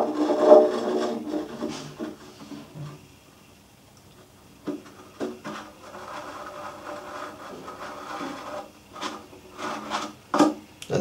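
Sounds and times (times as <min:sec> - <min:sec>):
plastic scraping rub: 0:00.0 - 0:03.0, 0:04.6 - 0:10.6.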